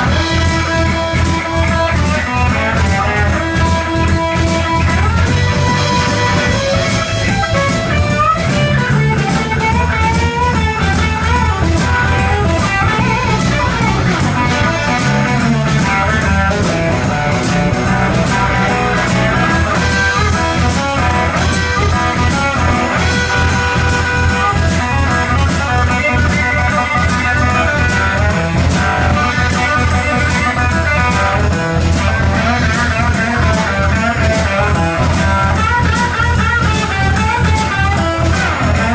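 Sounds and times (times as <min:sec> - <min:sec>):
drum kit steady beat: 0:00.0 - 0:38.9
electric guitar: 0:00.0 - 0:38.9.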